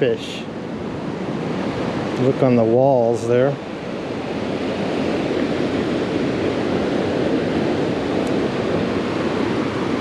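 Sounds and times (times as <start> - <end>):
ocean surf rushing: 0.0 - 10.0.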